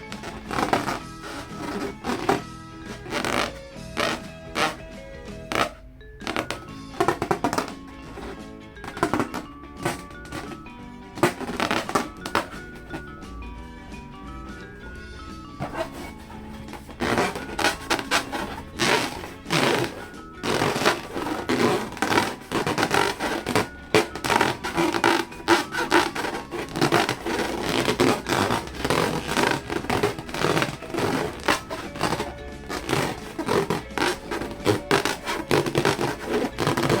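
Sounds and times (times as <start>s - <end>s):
slime and balloons squished by hand: 0.0s - 13.2s, 15.1s - 37.0s.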